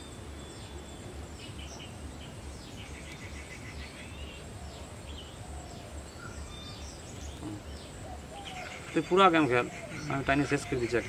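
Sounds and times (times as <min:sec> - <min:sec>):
birds chirping and calling: 0:00.0 - 0:11.0.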